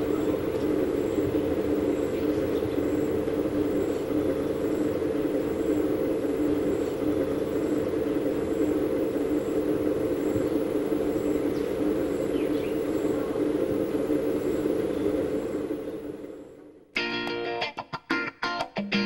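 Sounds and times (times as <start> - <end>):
machine-like hum: 0.0 - 19.0.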